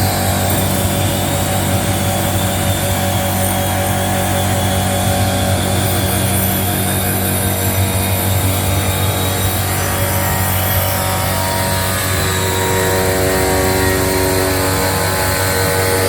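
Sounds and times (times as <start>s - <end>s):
woodworking machinery humming: 0.0s - 16.0s.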